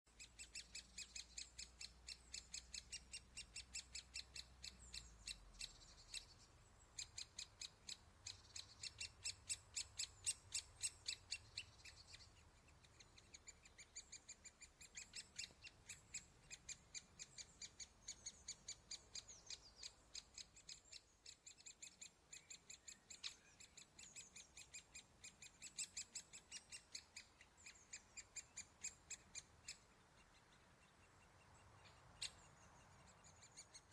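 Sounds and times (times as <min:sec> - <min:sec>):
woodpecker nestlings begging calls: 0:00.1 - 0:33.9.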